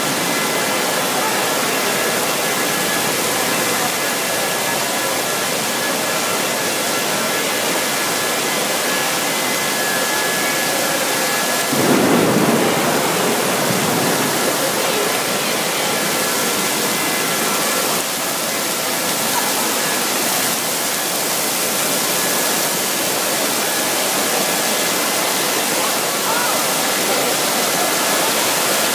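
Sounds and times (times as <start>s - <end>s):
torrential rain on glass roof: 0.0s - 28.9s.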